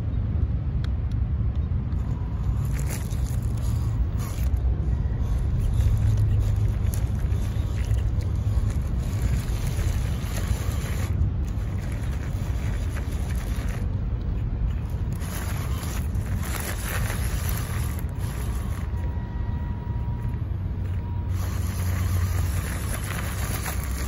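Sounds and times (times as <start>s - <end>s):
distant traffic: 0.0s - 24.0s
wind rumble: 0.0s - 24.0s
tyres crunching on gravel: 2.1s - 19.1s, 20.8s - 24.0s.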